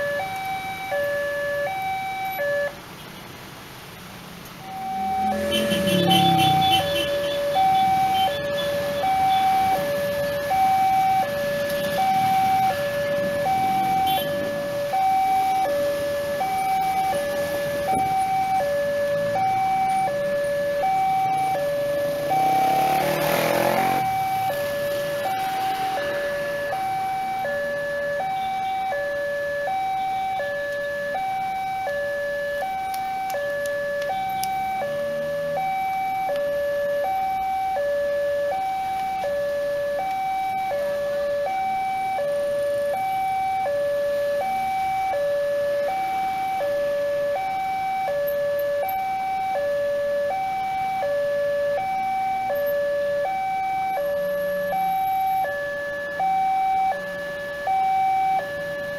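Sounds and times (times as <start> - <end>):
level crossing two-tone alarm: 0.0 - 2.7, 4.6 - 58.9.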